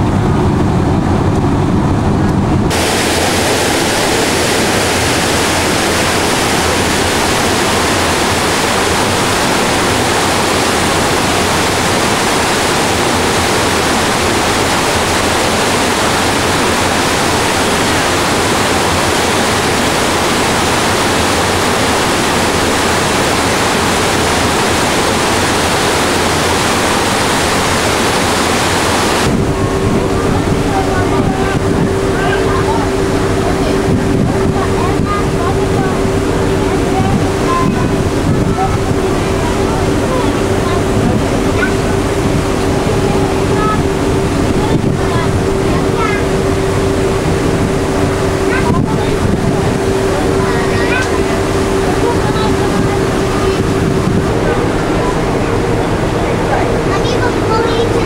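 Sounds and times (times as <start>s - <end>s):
ship engine hum: 0.0s - 58.0s
water churning alongside ship: 0.0s - 58.0s.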